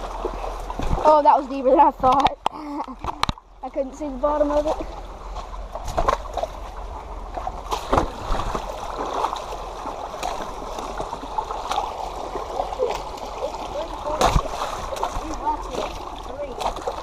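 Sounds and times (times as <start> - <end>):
creek gurgling over rocks: 0.0 - 17.0.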